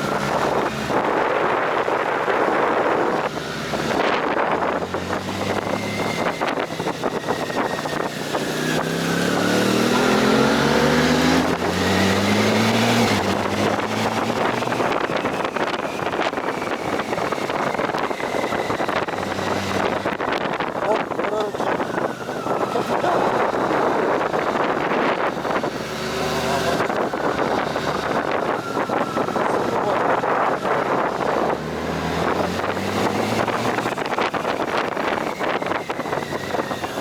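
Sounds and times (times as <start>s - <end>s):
motorcycle engine accelerating: 0.0s - 37.0s
wind buffeting microphone: 0.0s - 37.0s.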